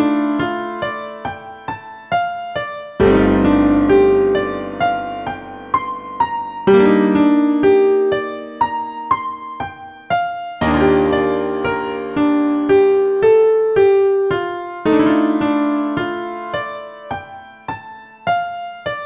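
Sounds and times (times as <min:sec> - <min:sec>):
sampled piano notes over chords: 0:00.0 - 0:19.0.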